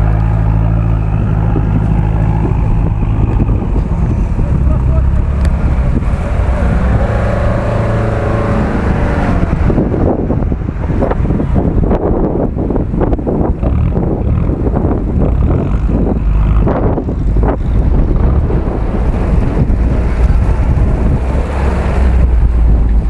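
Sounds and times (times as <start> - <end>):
off-road vehicle engines running: 0.0 - 23.0
wind buffeting microphone: 0.0 - 23.0.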